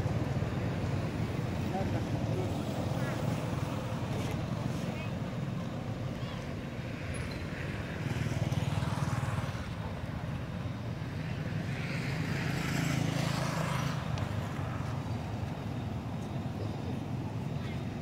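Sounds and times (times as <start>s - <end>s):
traffic engine hum: 0.0s - 18.0s
vehicles passing: 0.0s - 18.0s.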